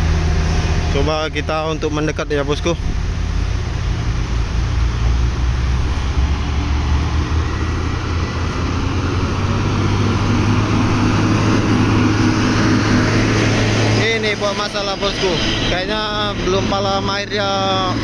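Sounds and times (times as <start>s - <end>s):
road noise: 0.0s - 18.0s
truck diesel engines droning: 0.0s - 18.0s.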